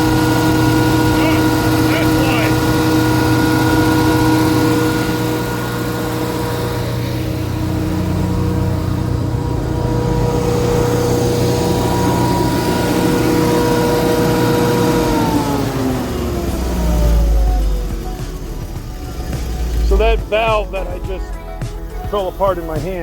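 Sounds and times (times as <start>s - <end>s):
generator engine hum: 0.0s - 23.0s
generator whine: 0.0s - 23.0s.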